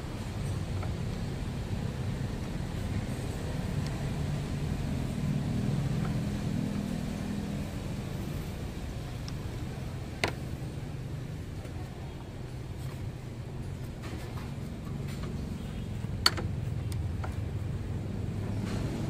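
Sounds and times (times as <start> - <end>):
low engine-like hum: 0.0 - 19.0.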